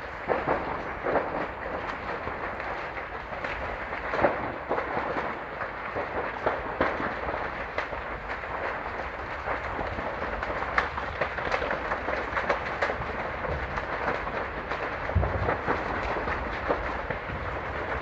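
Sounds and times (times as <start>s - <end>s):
fire crackling and popping: 0.0s - 18.0s
fire rushing noise: 0.0s - 18.0s.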